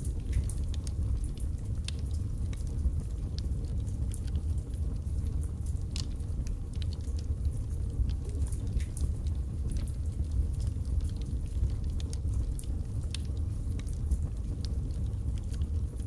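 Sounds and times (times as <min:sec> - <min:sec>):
wood crackling and popping: 0:00.0 - 0:16.0.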